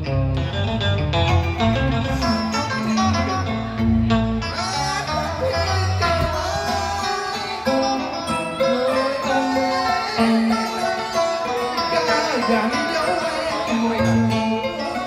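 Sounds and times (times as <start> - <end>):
plucked string music with guitar: 0.0 - 15.0.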